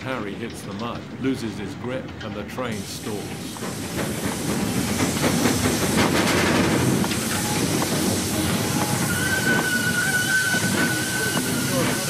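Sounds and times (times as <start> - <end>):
locomotive knocks and chuffs: 0.0 - 12.0
steam locomotive hissing steam: 1.3 - 12.0.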